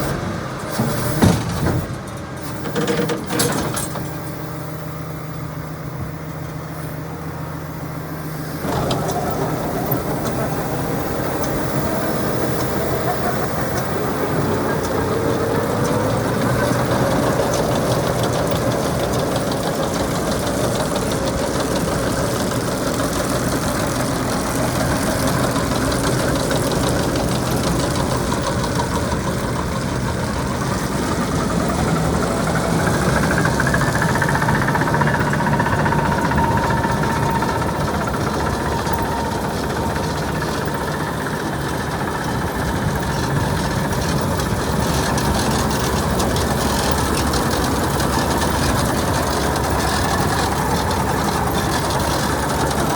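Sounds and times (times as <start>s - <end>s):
tractor engine running: 0.0s - 52.9s
high whine: 3.8s - 52.9s.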